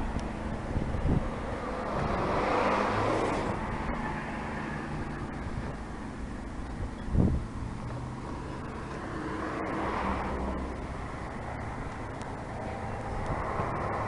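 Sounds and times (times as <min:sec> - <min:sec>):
vehicle passing: 0:00.0 - 0:06.0, 0:07.2 - 0:14.0
low engine hum: 0:00.0 - 0:14.0.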